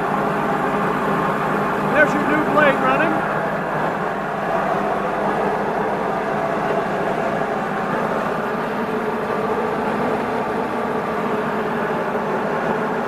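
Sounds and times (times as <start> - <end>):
converter hum: 0.0 - 12.2.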